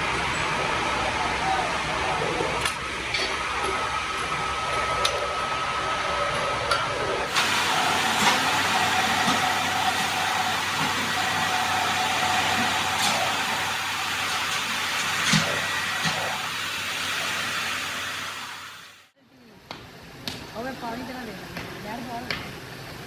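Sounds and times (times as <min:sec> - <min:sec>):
workshop machinery whining: 0:00.0 - 0:23.0.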